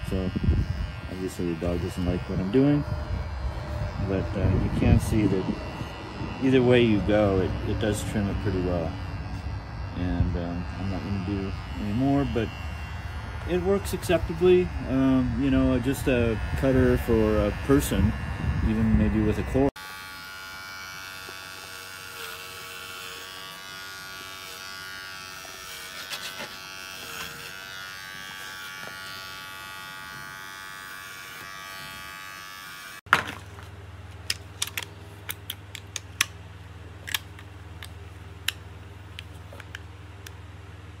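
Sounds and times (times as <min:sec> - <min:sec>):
electric clipper buzzing: 0:00.0 - 0:33.4, 0:37.0 - 0:40.4.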